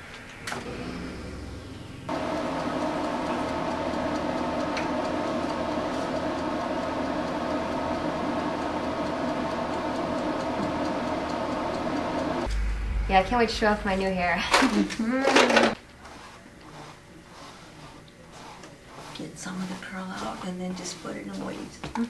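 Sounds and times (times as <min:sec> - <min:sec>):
hood hair dryer humming: 0:00.0 - 0:22.0.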